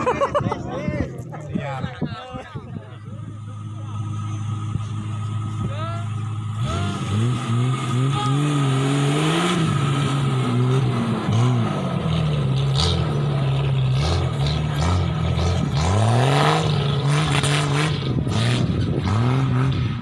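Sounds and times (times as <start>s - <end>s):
vehicle engine revving: 2.8s - 20.0s.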